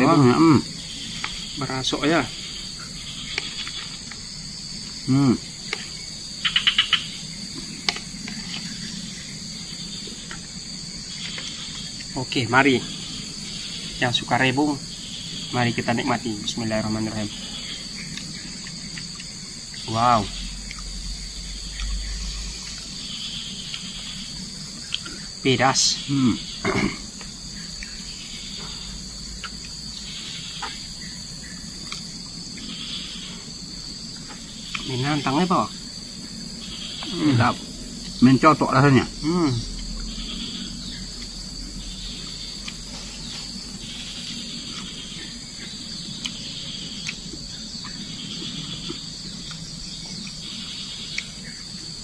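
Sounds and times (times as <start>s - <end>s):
insects shrilling: 0.0s - 52.0s.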